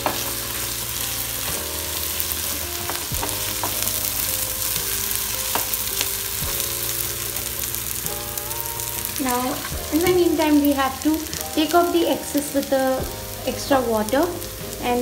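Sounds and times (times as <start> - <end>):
faint background music: 0.0 - 15.0
paste and onions sizzling in oil: 0.0 - 15.0.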